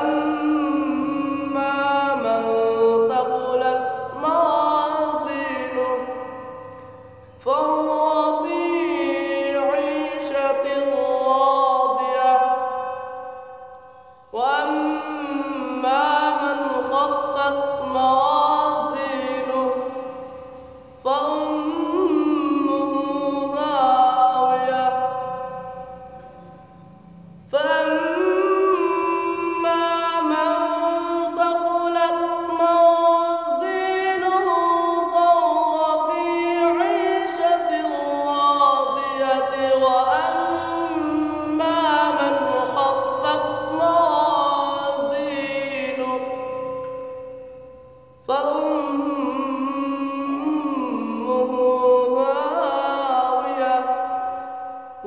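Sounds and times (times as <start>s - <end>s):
boy reciting melodically: 0.0s - 6.6s, 7.4s - 26.2s, 27.4s - 47.1s, 48.2s - 55.0s.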